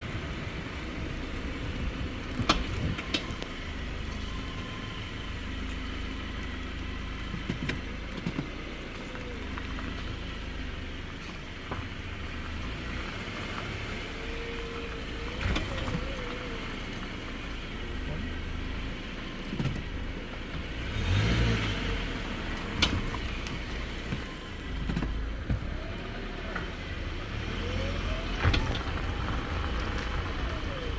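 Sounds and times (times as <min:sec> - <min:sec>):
car driving rumble: 0:00.0 - 0:30.9
suspension clunking: 0:00.0 - 0:30.9.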